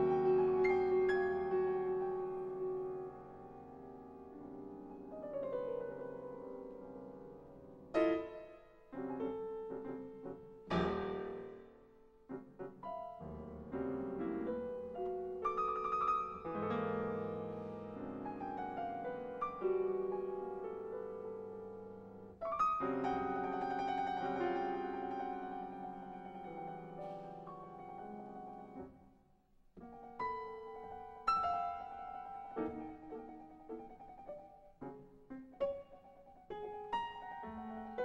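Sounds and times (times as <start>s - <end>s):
solo piano atonal playing: 0.0s - 29.0s, 29.8s - 38.0s.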